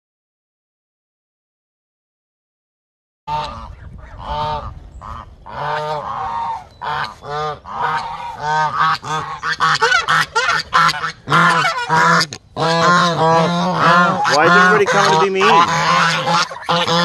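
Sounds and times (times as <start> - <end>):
geese honking: 3.3 - 17.0.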